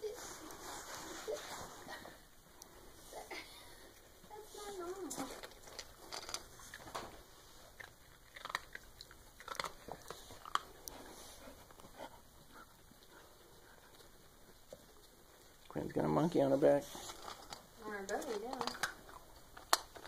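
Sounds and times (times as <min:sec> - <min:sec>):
dog chewing dry kibble: 0:03.8 - 0:20.0.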